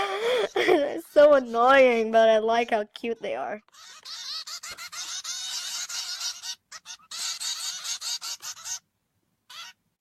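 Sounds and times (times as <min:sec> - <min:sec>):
birds chirping: 0:00.1 - 0:08.9, 0:09.5 - 0:09.8.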